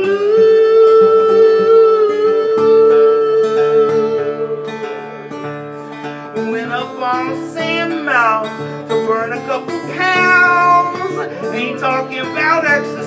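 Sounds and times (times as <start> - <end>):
acoustic guitar strumming: 0.0 - 13.0
man singing: 0.0 - 13.0.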